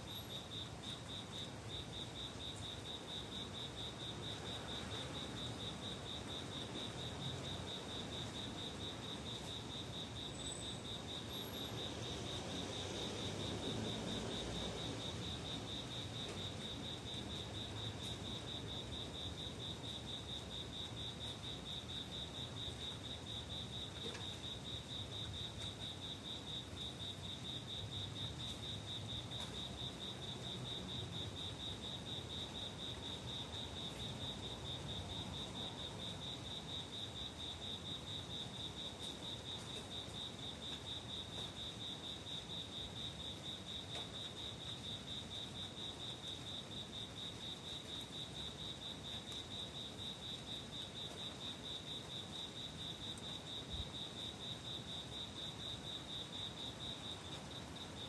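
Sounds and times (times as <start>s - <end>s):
cricket chirping trill: 0.0s - 58.0s.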